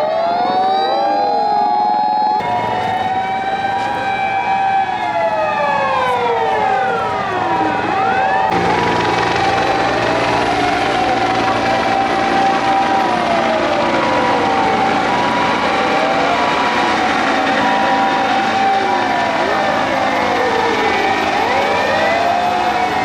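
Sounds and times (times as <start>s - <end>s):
fire engine sirens wailing: 0.0s - 23.0s
low engine rumble: 2.4s - 22.9s.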